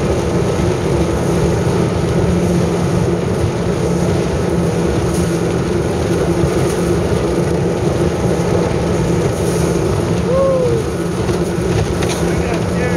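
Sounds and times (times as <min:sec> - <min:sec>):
outboard motor running: 0:00.0 - 0:12.9.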